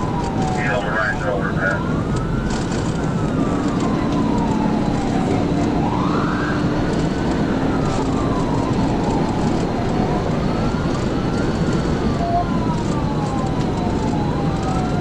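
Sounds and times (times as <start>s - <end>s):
police siren wailing: 0.0s - 15.0s
road and vehicle noise: 0.0s - 15.0s.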